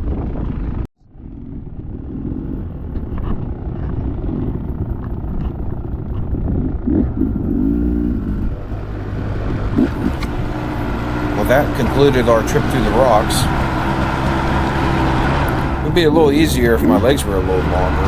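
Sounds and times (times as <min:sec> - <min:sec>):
dirt bike engine low revs: 0:00.0 - 0:18.0.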